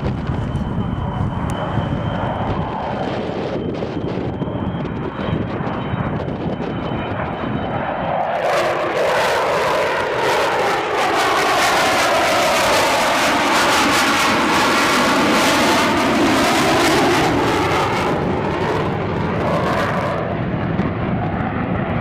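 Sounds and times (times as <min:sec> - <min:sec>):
aircraft engine rumble: 0:00.0 - 0:22.0.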